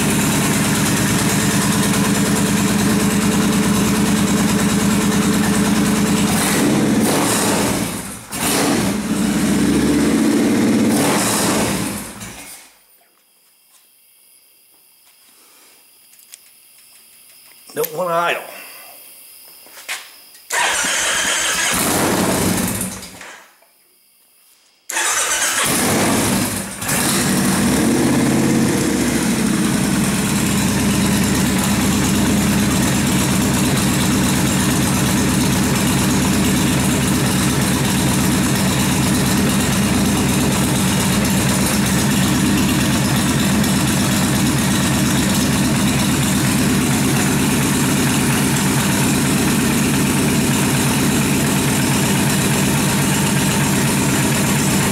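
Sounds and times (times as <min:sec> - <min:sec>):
motorcycle engine starting and idling: 0:00.0 - 0:12.8, 0:20.5 - 0:23.4, 0:24.9 - 0:54.9.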